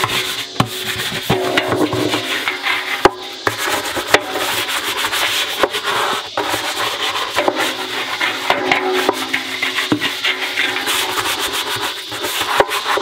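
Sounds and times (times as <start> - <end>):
hand scrubbing washing machine tub: 0.0 - 13.0.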